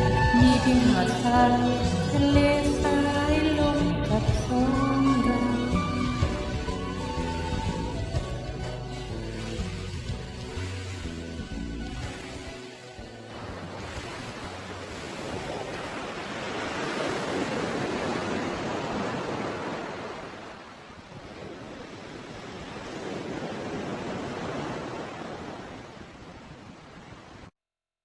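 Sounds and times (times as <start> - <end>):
sea waves washing on shore: 0.0 - 27.5.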